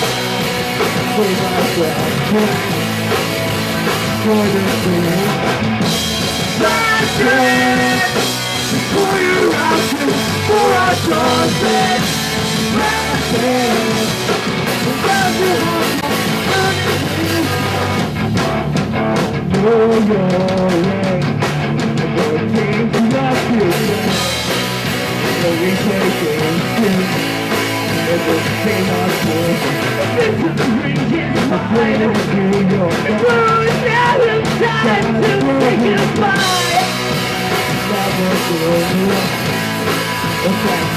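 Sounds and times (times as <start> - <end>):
live punk rock band: 0.0 - 40.9.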